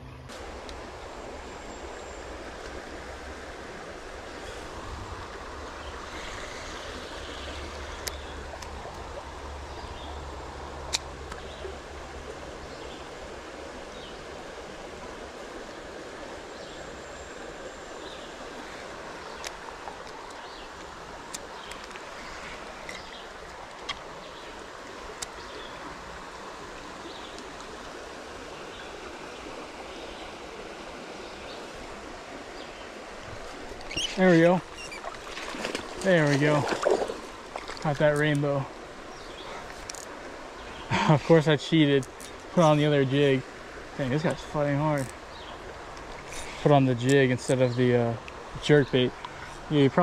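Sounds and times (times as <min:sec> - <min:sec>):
creek water running over stones: 0:00.2 - 0:50.0.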